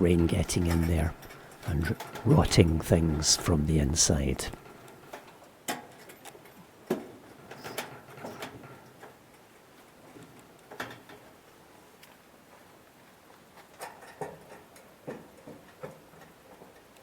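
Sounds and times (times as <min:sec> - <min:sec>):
faint background hiss: 0:00.0 - 0:17.0.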